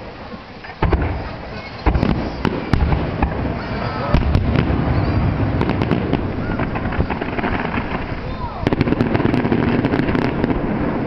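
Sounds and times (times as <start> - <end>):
firework whistling glides: 0.0 - 11.0
fireworks booming and cracking: 0.0 - 11.0.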